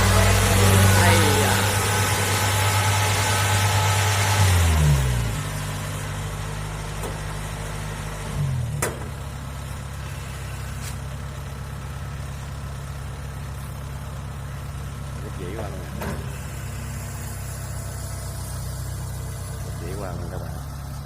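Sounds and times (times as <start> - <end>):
diesel engine throttling down: 0.0 - 21.0.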